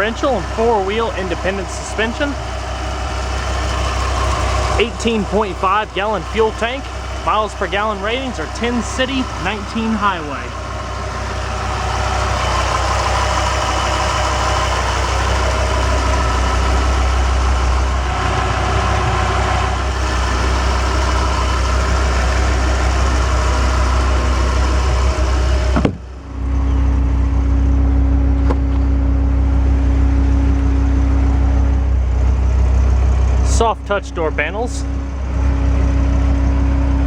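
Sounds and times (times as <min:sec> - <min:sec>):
car engine idling: 0:00.0 - 0:37.0
steady hum: 0:00.0 - 0:37.0.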